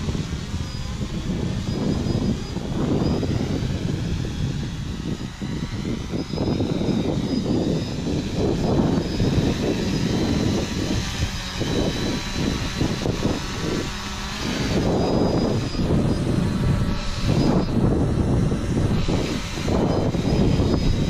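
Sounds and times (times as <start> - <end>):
drone motors whining: 0.0 - 21.0
high-pitched squealing tones: 0.0 - 21.0
wind buffeting microphone: 0.0 - 21.0.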